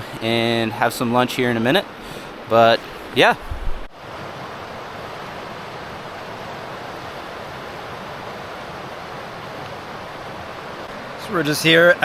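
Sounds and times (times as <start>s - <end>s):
river rapids rushing: 1.9s - 12.0s.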